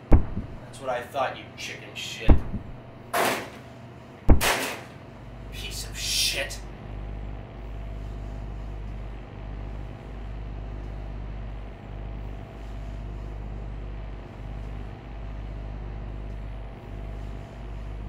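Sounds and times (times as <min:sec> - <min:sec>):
deep low hum: 0:00.0 - 0:00.8, 0:02.3 - 0:18.0.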